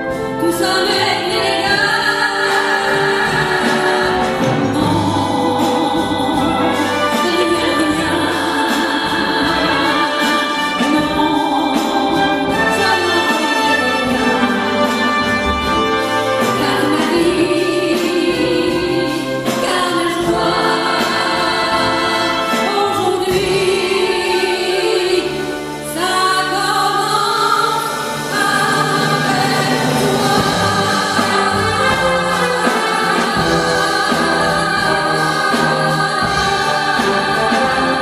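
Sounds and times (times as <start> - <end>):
military wind band playing: 0.0 - 24.2, 27.9 - 38.0
woman singing: 0.3 - 14.6, 16.5 - 38.0.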